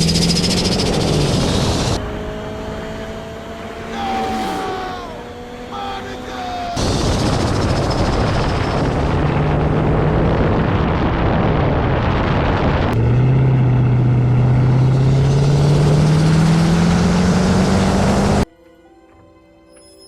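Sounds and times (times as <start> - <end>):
car engine accelerating: 0.0 - 18.5
wind and road rush: 0.0 - 18.5.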